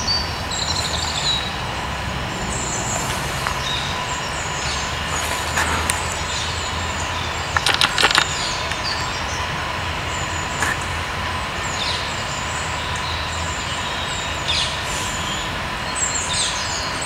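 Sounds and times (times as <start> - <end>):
birds chirping: 0.0 - 17.0
distant road traffic hum: 0.0 - 17.0.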